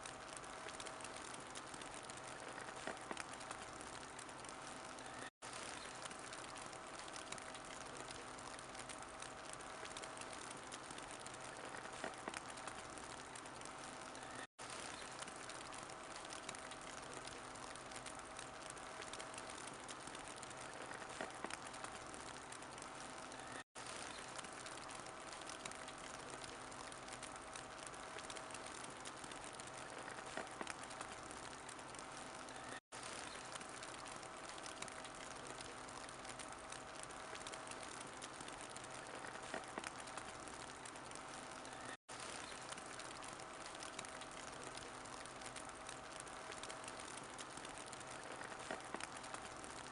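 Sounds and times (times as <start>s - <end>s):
small pops of fire: 0.0s - 49.9s
wood fire crackling: 0.0s - 49.9s.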